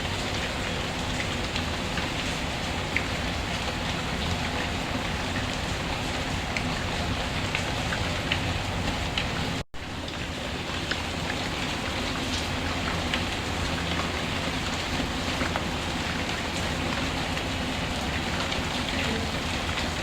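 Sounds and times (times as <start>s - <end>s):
rain falling: 0.0s - 20.0s
raindrop ticks: 0.0s - 20.0s.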